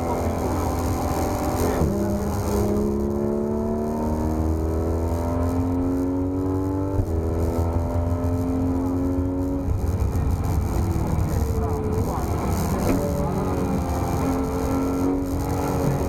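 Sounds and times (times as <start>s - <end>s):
car engine accelerating: 0.0s - 16.0s
road and tyre rumble: 0.0s - 16.0s.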